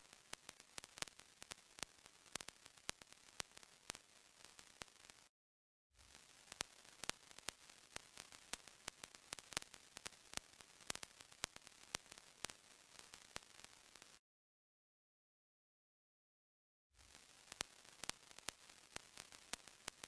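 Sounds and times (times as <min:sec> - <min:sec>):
tape static hiss with crackling clicks: 0:00.0 - 0:05.3, 0:06.0 - 0:14.2, 0:17.0 - 0:20.0.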